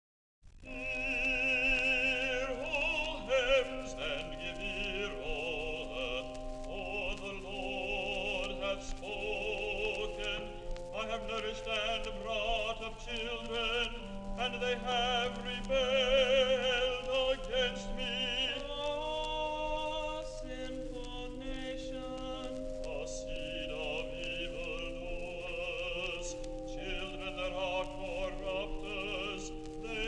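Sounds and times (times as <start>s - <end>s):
choir singing sustained chords: 0.7s - 30.0s.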